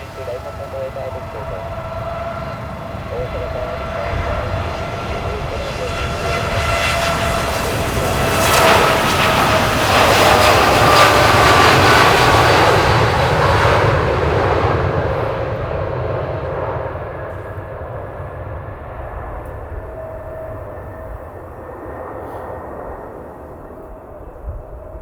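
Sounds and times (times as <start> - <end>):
jet airliner taking off: 0.0 - 25.0.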